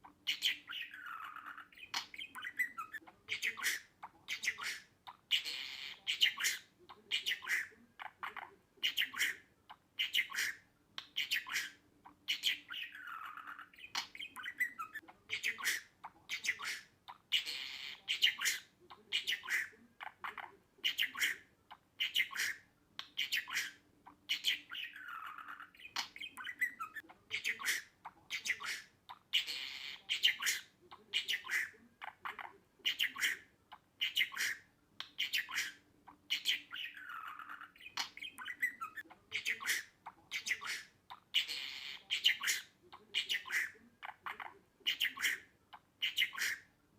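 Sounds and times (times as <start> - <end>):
budgerigars chirping and squawking: 0.0 - 46.8
faint low hum: 0.0 - 46.9.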